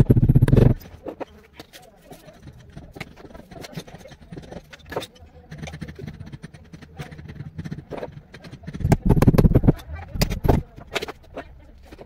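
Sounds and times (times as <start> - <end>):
plastic pipe clicks and scrapes: 0.0 - 12.0.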